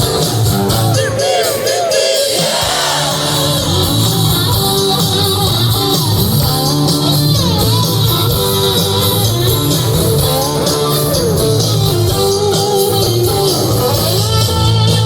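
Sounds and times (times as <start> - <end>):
electric guitar lead: 0.0 - 1.4, 2.6 - 15.0
rock band playing: 0.0 - 15.0.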